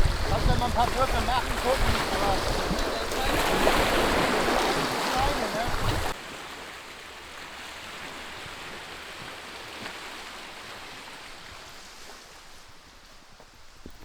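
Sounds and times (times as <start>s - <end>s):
sea water washing on rocks: 0.0s - 14.0s.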